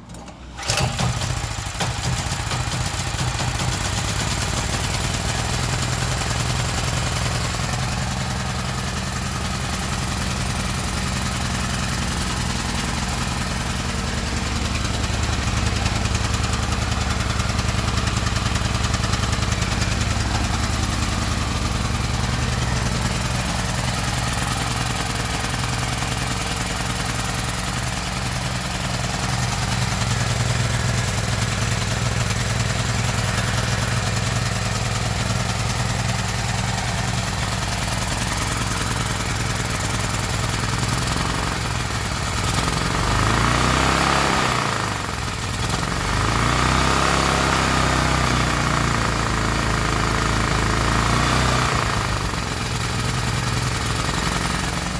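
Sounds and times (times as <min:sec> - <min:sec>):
generator engine running: 0:00.0 - 0:54.9.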